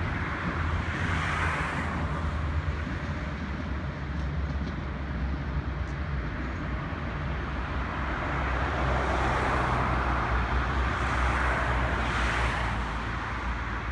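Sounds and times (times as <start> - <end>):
road traffic rumble: 0.0 - 13.9.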